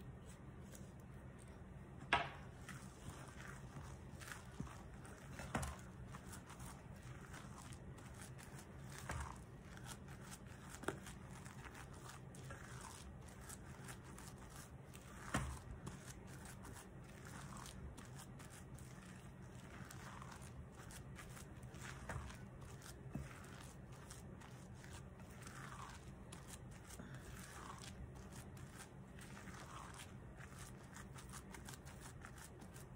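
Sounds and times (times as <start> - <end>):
spatula scraping dough in bowl: 2.4 - 32.9.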